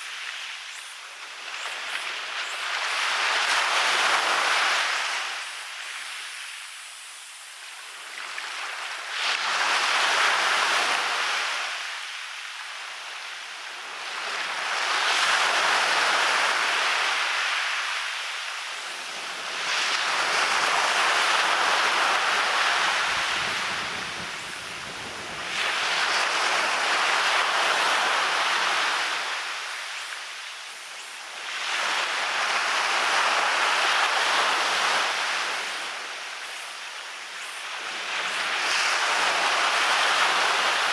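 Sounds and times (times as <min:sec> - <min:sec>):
waves breaking on beach: 0:00.0 - 0:40.9.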